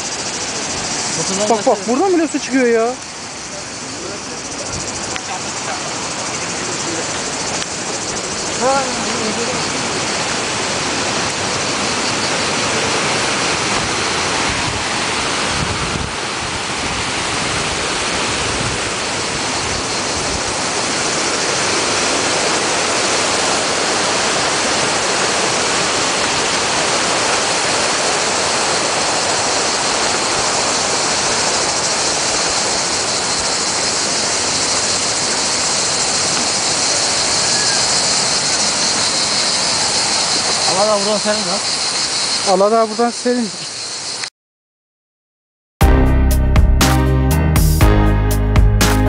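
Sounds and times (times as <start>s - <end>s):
waterfall rushing: 0.0s - 44.2s.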